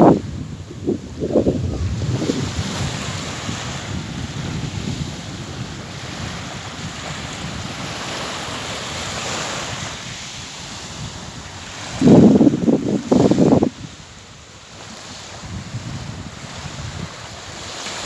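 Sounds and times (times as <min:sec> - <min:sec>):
sea waves washing in: 0:00.0 - 0:18.0
wind: 0:00.0 - 0:18.0.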